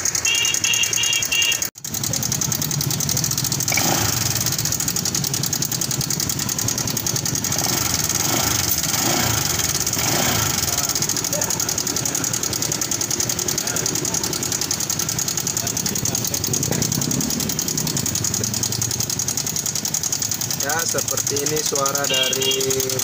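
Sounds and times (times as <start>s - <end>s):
fast metallic ticking: 0.0s - 23.0s
scooter engine idling: 0.0s - 23.0s.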